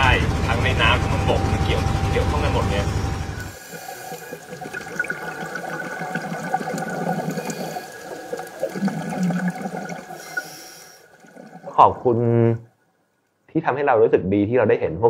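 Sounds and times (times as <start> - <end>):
underwater watery haze: 0.0 - 13.3.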